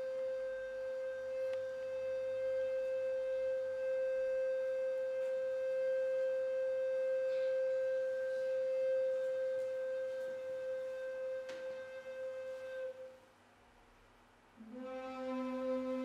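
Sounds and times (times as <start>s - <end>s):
steady pure tone: 0.0s - 16.0s.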